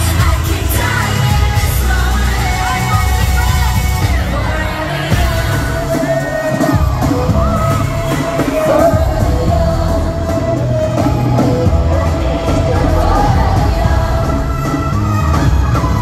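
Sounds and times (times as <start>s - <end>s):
live pop music with heavy beat: 0.0s - 16.0s
women singing: 0.0s - 16.0s.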